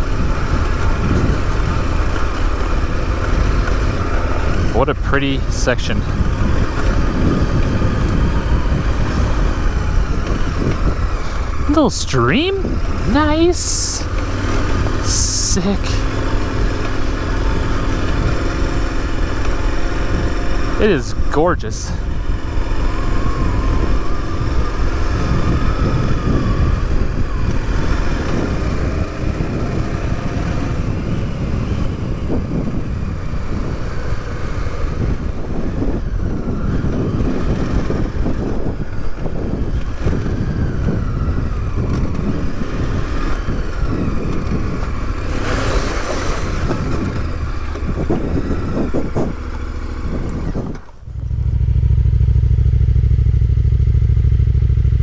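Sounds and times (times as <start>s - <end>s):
motorcycle engine revving: 0.0s - 5.1s, 6.0s - 55.0s
wind and ground noise: 0.0s - 55.0s.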